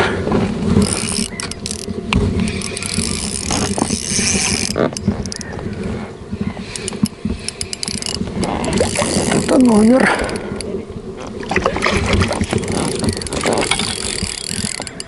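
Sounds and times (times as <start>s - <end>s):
fishing reel gears whirring: 0.7s - 5.8s, 6.7s - 10.7s, 11.8s - 15.0s
reel sharp clicks: 0.7s - 5.9s, 6.6s - 15.0s.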